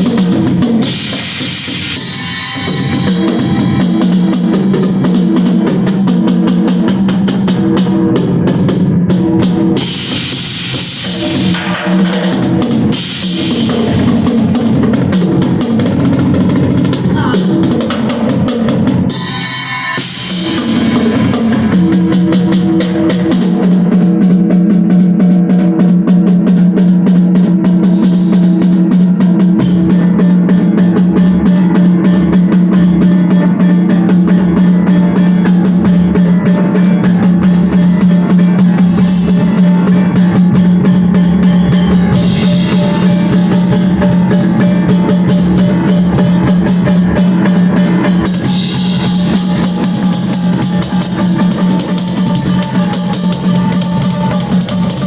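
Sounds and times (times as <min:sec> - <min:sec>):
pounding bass drum: 0:00.0 - 0:55.0.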